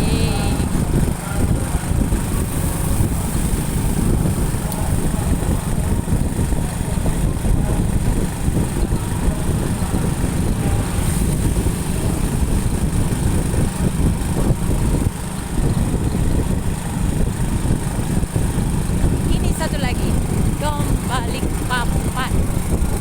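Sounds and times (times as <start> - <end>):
motorcycle engine and road noise: 0.0 - 23.0
wind buffeting microphone: 0.0 - 23.0.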